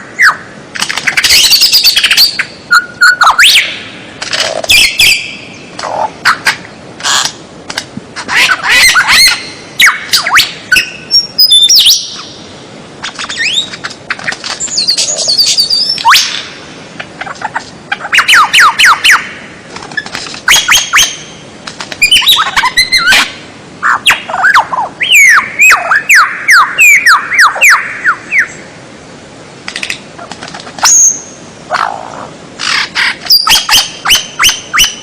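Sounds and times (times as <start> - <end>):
songbird whistling and squawking: 0.0 - 3.9, 4.6 - 7.3, 8.2 - 12.4, 13.0 - 16.6, 17.2 - 21.4, 22.0 - 28.7, 30.8 - 35.0.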